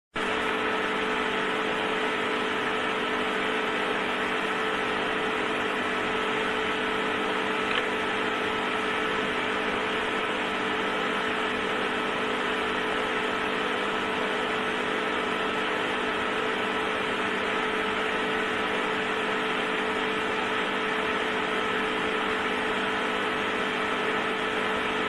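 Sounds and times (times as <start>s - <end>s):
electric heater humming: 0.2s - 25.0s.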